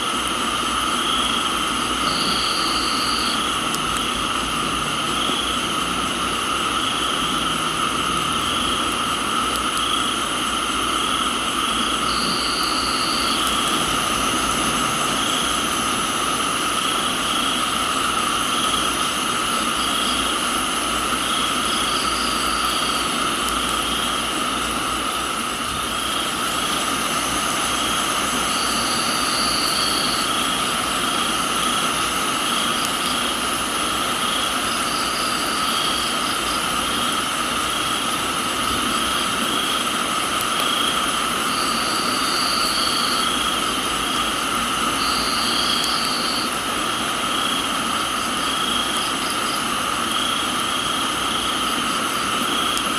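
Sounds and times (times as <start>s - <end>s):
crickets and insects trilling: 0.0s - 52.9s
rain hiss: 0.0s - 52.9s.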